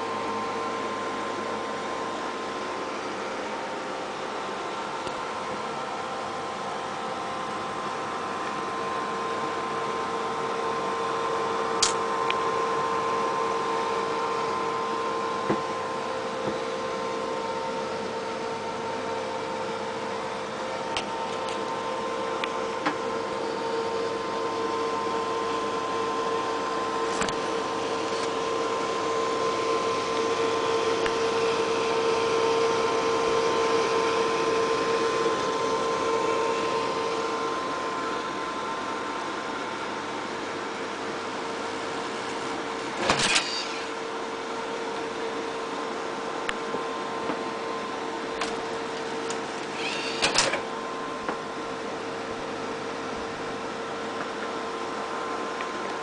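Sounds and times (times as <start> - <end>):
computer fans whirring: 0.0 - 56.0
steady tonal hum: 0.0 - 56.0.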